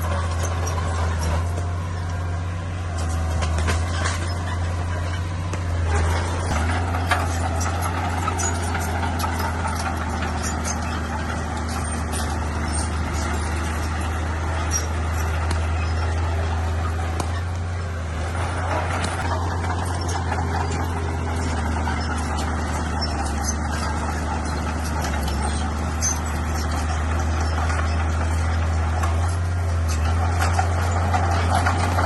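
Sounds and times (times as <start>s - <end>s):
bulldozer diesel engine droning: 0.0s - 32.0s
light metal clanks: 0.0s - 32.0s.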